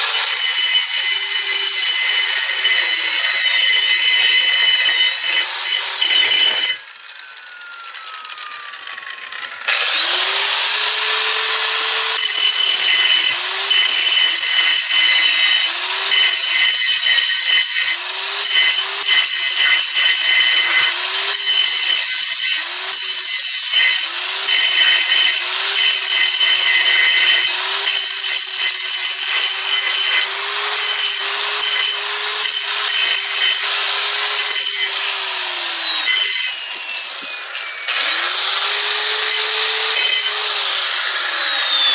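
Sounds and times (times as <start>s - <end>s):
angle grinder grinding steel: 0.0s - 41.9s.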